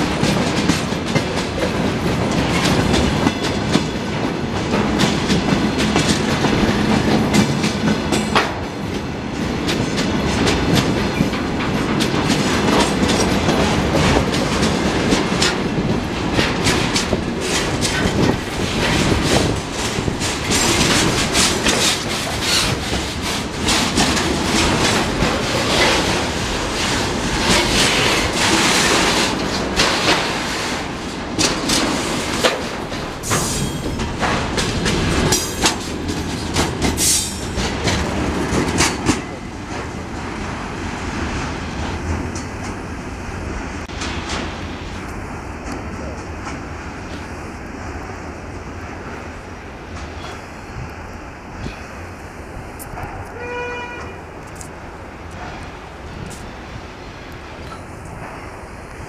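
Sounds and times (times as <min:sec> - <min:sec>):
steel wheels rumbling on rail: 0:00.0 - 0:59.0
wheels clattering over rail joints: 0:00.0 - 0:59.0.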